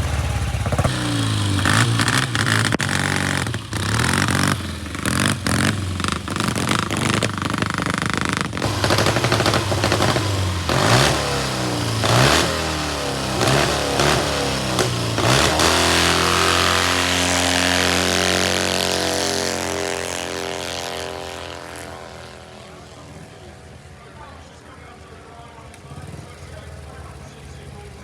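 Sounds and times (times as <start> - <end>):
motorcycle accelerating through gears: 0.0 - 24.3, 25.7 - 28.0.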